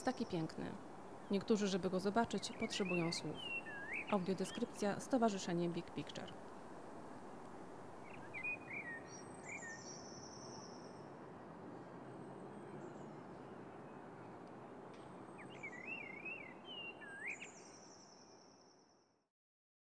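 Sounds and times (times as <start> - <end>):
songbirds calling: 0.0 - 6.8, 7.4 - 11.2, 12.1 - 18.9.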